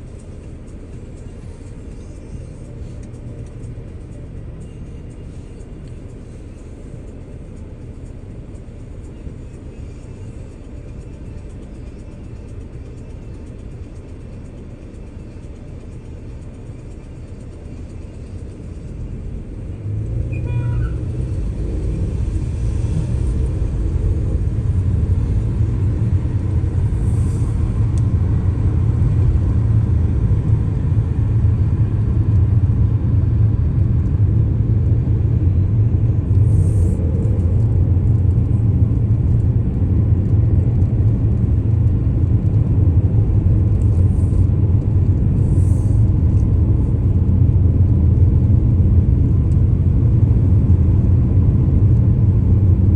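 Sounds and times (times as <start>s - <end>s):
road and engine rumble: 0.0s - 52.9s.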